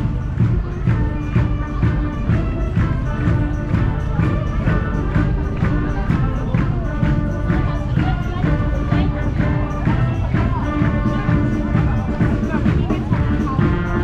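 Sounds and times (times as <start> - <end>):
music with steady beat: 0.0 - 14.0.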